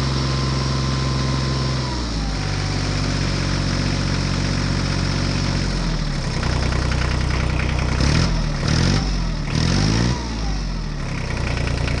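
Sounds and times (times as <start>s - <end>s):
tractor engine idling and revving: 0.0s - 12.0s.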